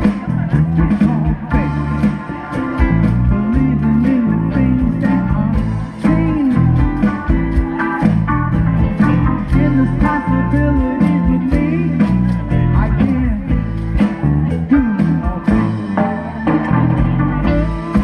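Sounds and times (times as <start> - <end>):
blues band playing live: 0.0 - 18.0
sliding guitar lead line: 0.0 - 18.0.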